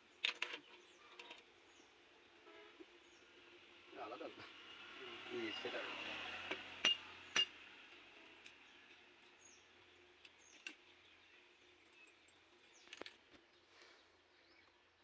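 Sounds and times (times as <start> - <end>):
small birds chirping: 0.0 - 5.8, 7.0 - 15.0.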